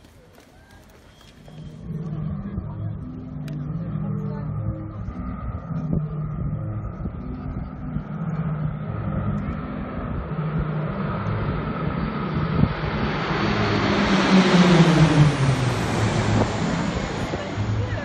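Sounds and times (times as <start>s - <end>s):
small aircraft flying overhead: 0.0s - 18.0s.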